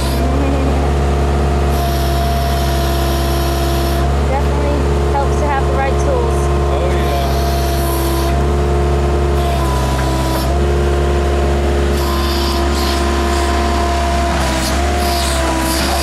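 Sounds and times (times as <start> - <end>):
backhoe bucket digging: 0.0 - 16.0
diesel engine running: 0.0 - 16.0
hydraulic whine: 0.0 - 16.0.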